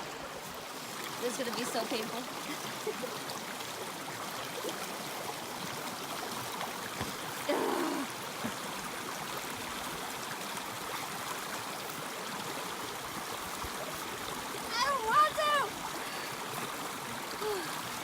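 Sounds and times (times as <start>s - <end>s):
flowing water rushing: 0.0s - 18.0s.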